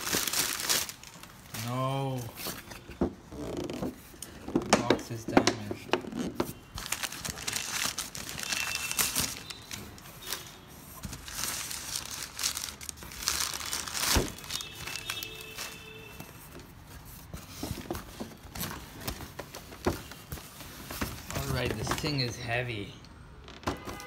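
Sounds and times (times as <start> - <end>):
plastic bag and paper rustling: 0.0 - 22.9.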